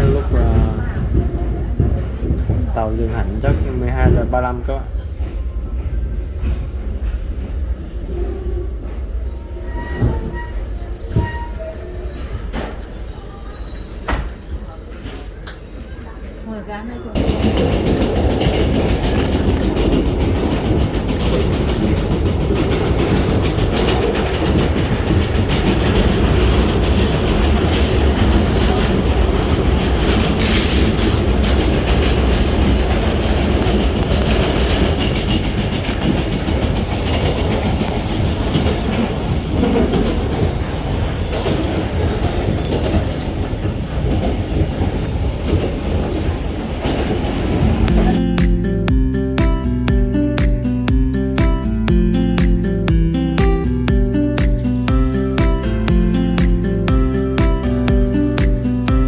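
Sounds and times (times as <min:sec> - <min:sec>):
train wheels on rails: 0:00.0 - 0:48.6.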